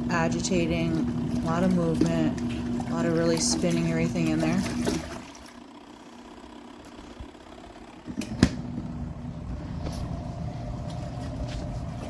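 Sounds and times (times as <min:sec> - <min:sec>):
washing machine motor hum with churning: 0:00.0 - 0:12.0.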